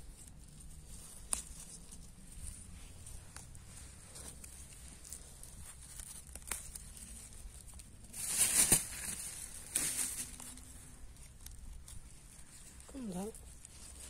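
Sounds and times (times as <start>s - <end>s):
leaves rustling: 0.0s - 14.0s
stems tearing: 0.0s - 14.0s.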